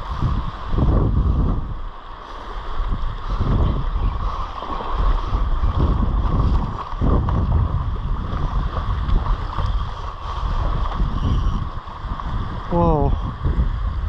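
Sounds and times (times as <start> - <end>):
surf washing: 0.0 - 14.0
wind gusting on microphone: 0.0 - 14.0.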